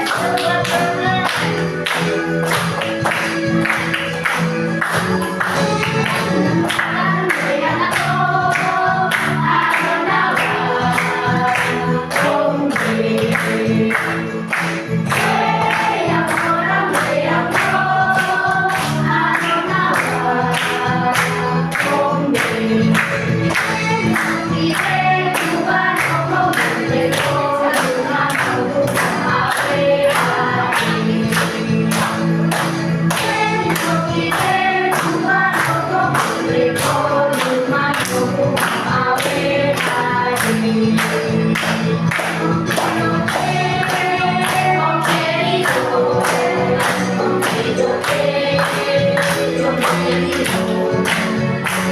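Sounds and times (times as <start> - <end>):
many voices singing: 0.0 - 51.9
song through a speaker: 0.0 - 51.9.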